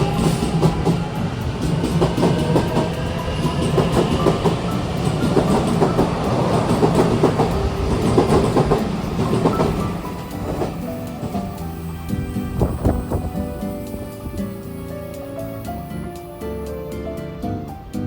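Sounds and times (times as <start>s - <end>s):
wheels clacking over track: 0.0s - 14.6s
train rumble and hum: 0.0s - 18.0s.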